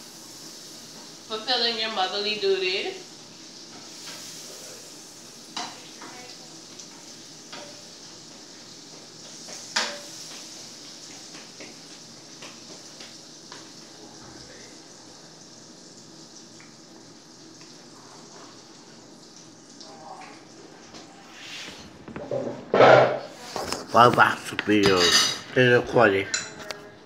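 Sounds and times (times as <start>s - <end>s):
food sizzling in frying pan: 0.0s - 26.5s.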